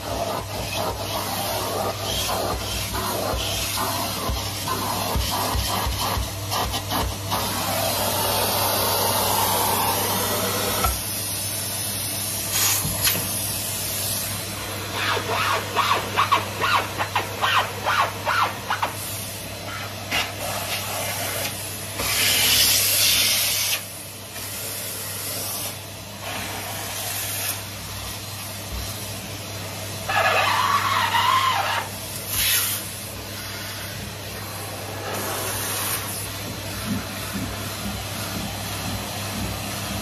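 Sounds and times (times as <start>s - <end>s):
vacuum cleaner motor hum: 0.0s - 40.0s
vacuum sucking hiss: 0.0s - 40.0s
vacuum wand scrubbing carpet: 0.0s - 40.0s.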